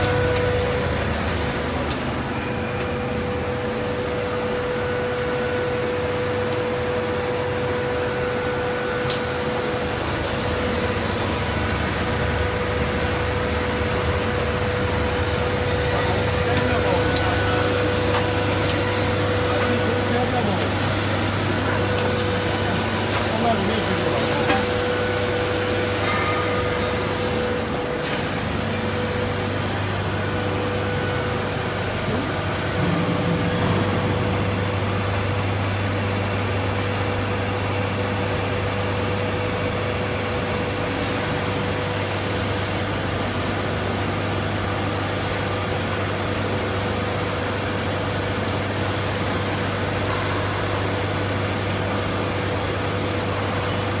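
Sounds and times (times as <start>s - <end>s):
machine motors and blowers drone: 0.0s - 54.0s.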